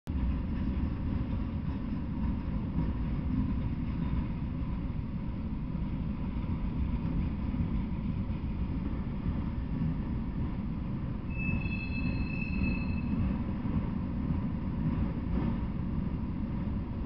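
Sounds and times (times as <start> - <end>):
freight train rumbling past: 0.1 - 17.0.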